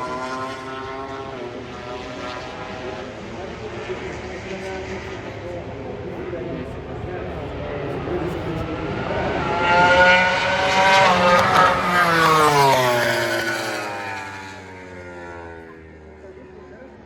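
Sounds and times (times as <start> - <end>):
racing motorcycle passing by: 0.0 - 17.0.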